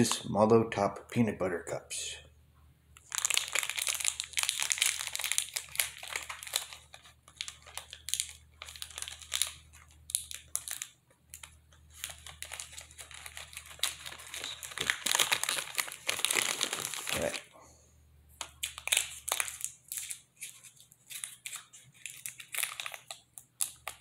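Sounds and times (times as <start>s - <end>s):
candy wrapper crinkling: 3.0s - 17.5s, 18.4s - 24.0s.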